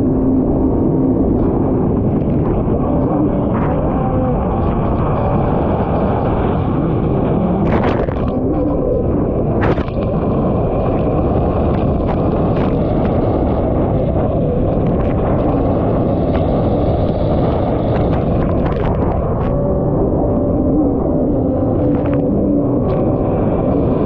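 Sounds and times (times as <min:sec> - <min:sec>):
jet ski engine running hard: 0:00.0 - 0:24.0
wind buffeting microphone: 0:00.0 - 0:24.0.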